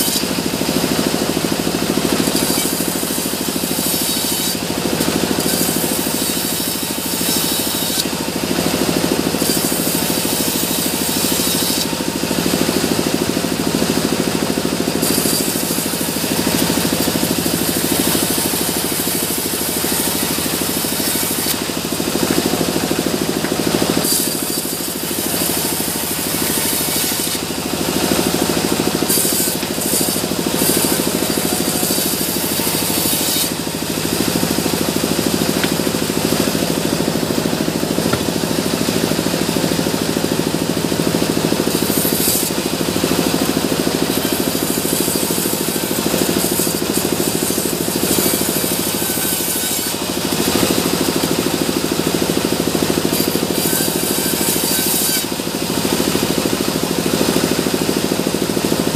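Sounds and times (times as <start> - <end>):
bandsaw cutting wood: 0.0 - 58.9.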